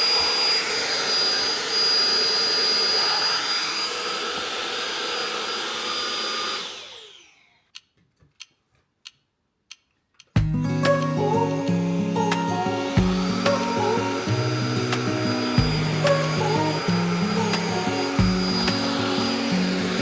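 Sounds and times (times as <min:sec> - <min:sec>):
vacuum cleaner running: 0:00.0 - 0:07.6, 0:10.9 - 0:20.0.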